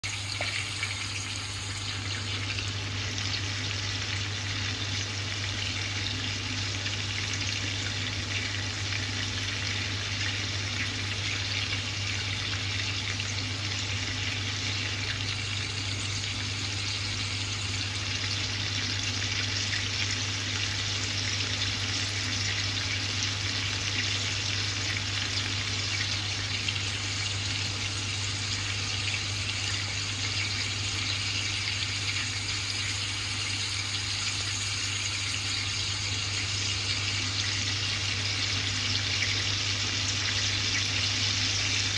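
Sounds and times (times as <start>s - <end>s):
chicken frying sizzle and crackle: 0.0s - 41.9s.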